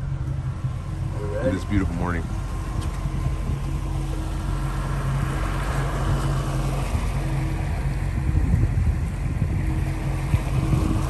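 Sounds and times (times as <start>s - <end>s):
boat engine droning: 0.0s - 11.0s
wind on microphone: 0.0s - 11.0s.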